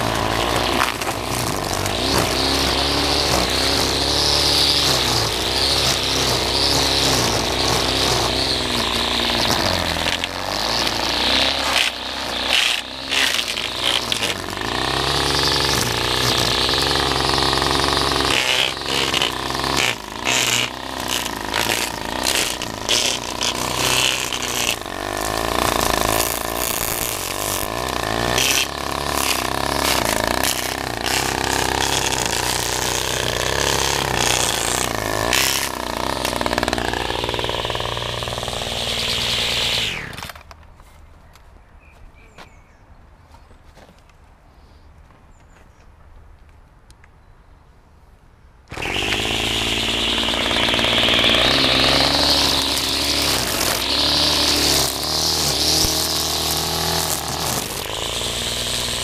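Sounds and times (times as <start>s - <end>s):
string trimmer engine revving: 0.0s - 40.5s, 48.7s - 59.0s.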